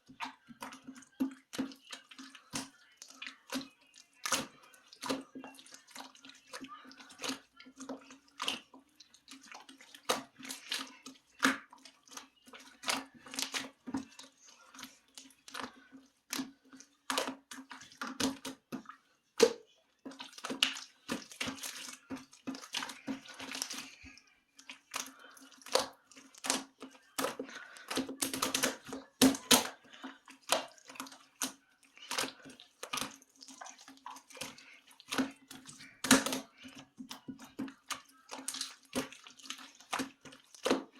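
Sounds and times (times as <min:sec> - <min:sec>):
slime squelching: 0:00.0 - 0:40.9.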